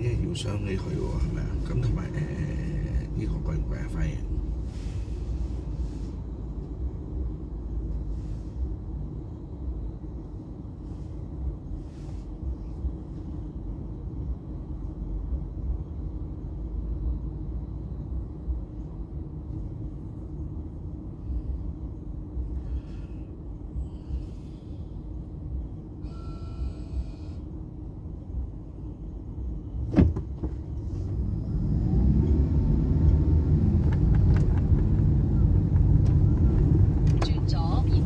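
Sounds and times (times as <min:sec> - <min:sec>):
road and engine rumble in car: 0:00.0 - 0:38.0.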